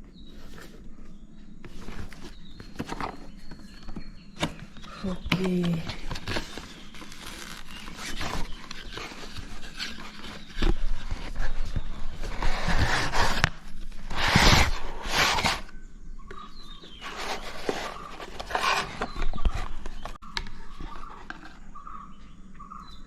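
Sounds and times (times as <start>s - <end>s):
packaging rustling and scraping: 0.2s - 15.7s, 16.8s - 21.7s.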